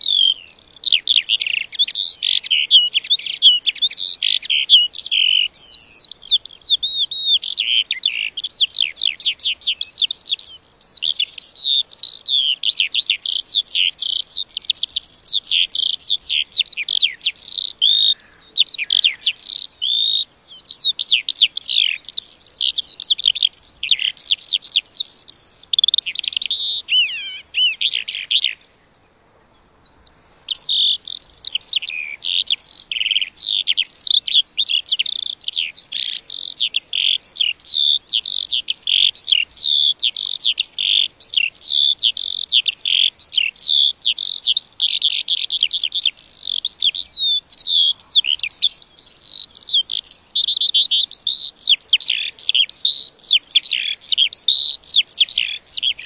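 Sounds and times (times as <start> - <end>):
lark singing: 0.0 - 28.9, 29.5 - 56.0.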